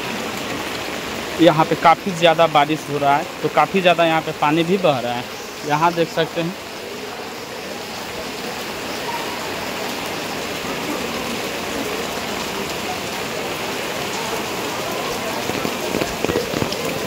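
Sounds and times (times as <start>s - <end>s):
heavy rain falling: 0.0s - 17.0s
rainwater running across pavement: 0.0s - 17.0s.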